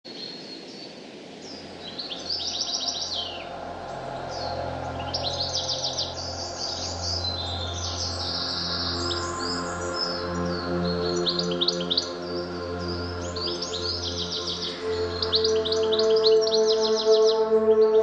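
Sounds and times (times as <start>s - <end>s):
small songbirds chirping: 0.0s - 18.0s
low steady drone: 1.7s - 18.0s.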